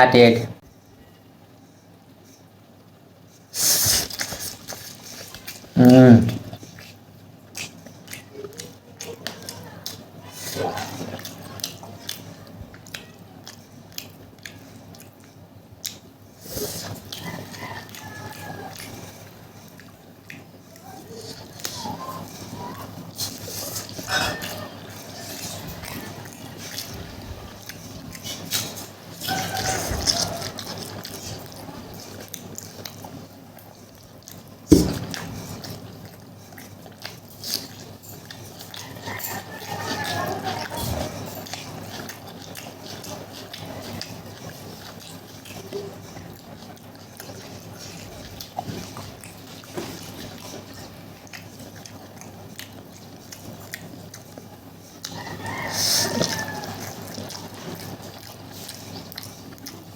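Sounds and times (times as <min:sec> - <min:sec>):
person chewing and slurping: 0:03.4 - 0:59.9.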